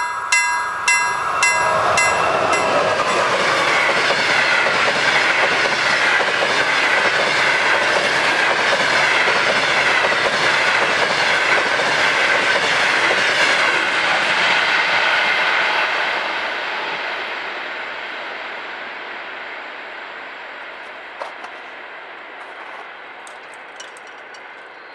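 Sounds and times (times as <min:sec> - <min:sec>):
train wheels rolling on rails: 0:00.0 - 0:24.9.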